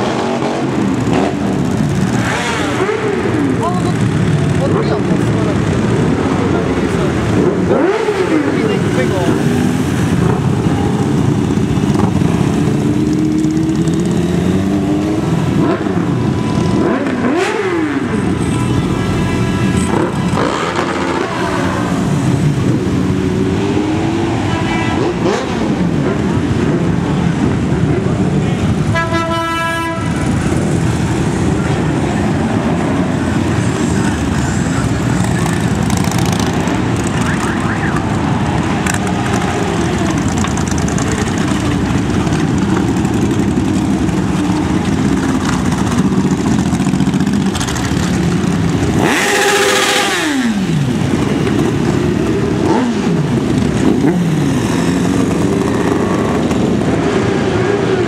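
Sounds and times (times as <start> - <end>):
motorcycles passing by: 0.0 - 58.0.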